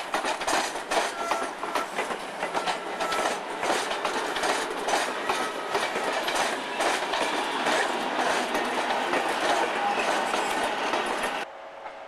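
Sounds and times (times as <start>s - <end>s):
wheels clicking over rail joints: 0.0s - 11.5s
train rushing rumble: 0.0s - 11.9s.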